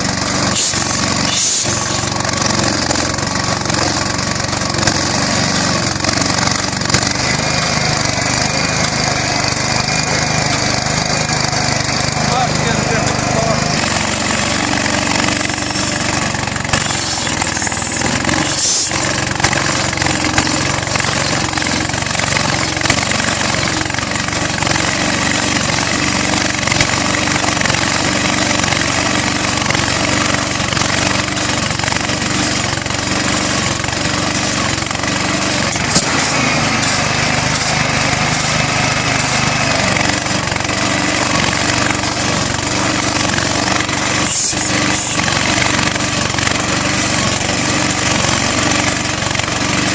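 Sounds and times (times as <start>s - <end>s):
flywheel engine running: 0.0s - 49.9s.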